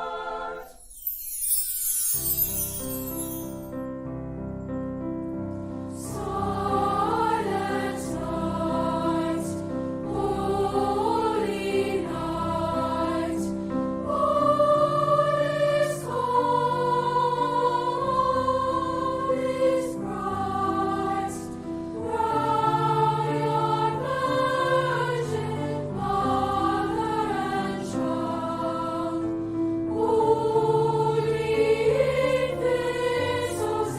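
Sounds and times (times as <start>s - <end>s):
choir singing: 0.0s - 3.6s, 5.9s - 33.9s.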